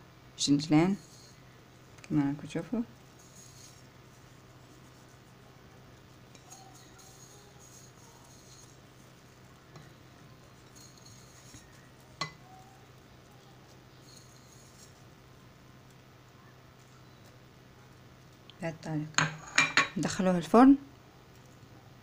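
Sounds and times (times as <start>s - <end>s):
seeds pattering on dough: 0.3s - 19.2s.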